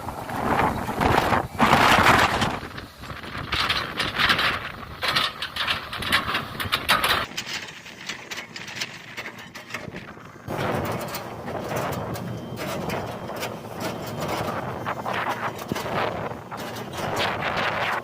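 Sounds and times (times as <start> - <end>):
excavator engine rumble: 0.0 - 18.0.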